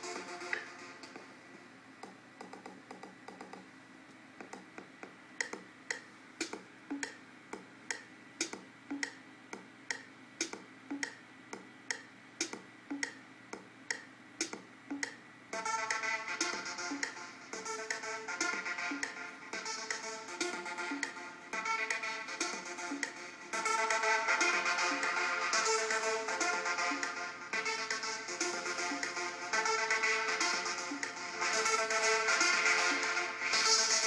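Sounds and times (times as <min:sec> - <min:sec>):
sparse electronic music: 0:00.0 - 0:03.8, 0:04.4 - 0:34.0
ticking beat with pitched blips: 0:00.0 - 0:34.0.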